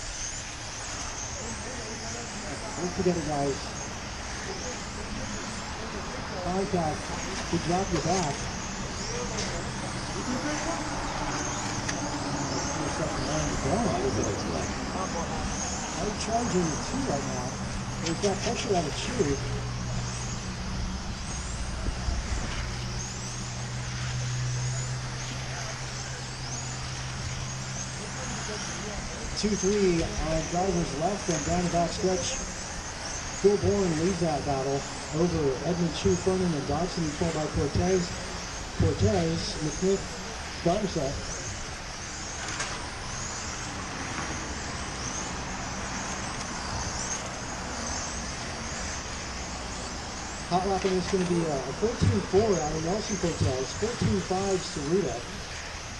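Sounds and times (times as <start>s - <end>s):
rc car motors whining: 0.0s - 55.9s
steady low hum: 0.0s - 55.9s.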